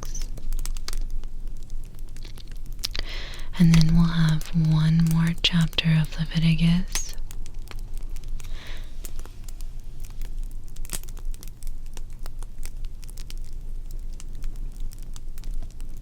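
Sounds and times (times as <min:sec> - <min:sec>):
fire crackling and popping: 0:00.0 - 0:16.0
low steady rumble: 0:00.0 - 0:16.0.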